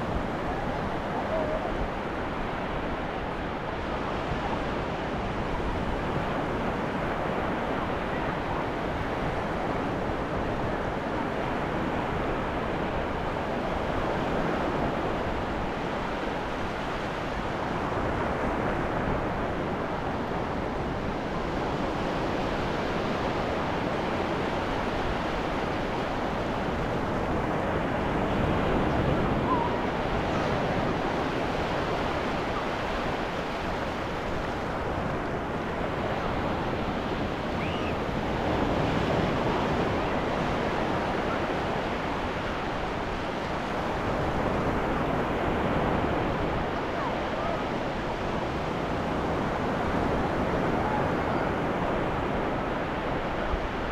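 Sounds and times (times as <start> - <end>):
ocean waves washing onto beach: 0.0 - 53.9.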